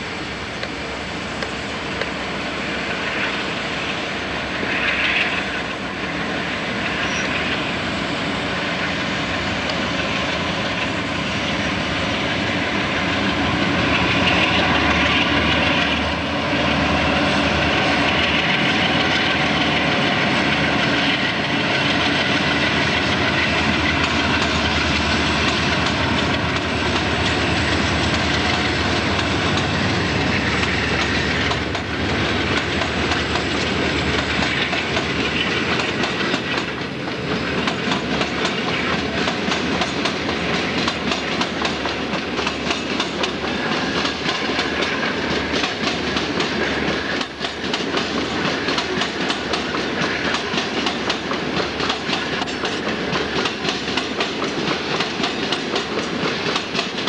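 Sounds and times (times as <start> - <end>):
diesel locomotive engines: 0.0 - 57.0
freight cars rolling on rails: 0.0 - 57.0.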